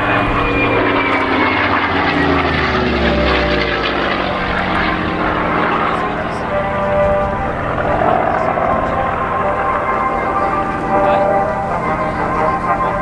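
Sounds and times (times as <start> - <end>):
propeller aircraft engine fly-past: 0.0 - 13.0.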